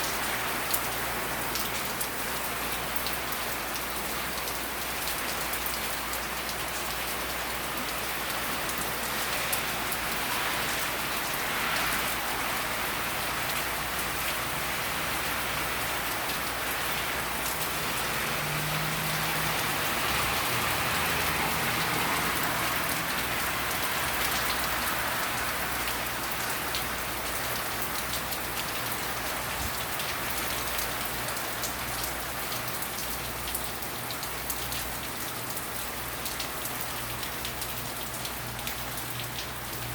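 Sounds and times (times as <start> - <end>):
heavy rain falling: 0.0 - 39.9
raindrops ticking on surfaces: 0.0 - 39.9.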